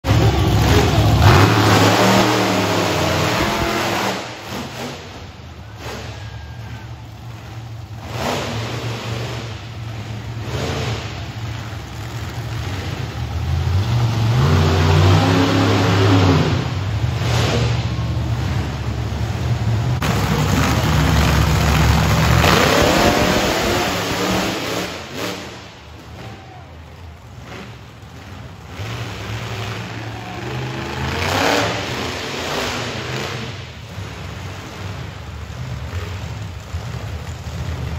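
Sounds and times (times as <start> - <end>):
monster truck engines revving: 0.0 - 37.9.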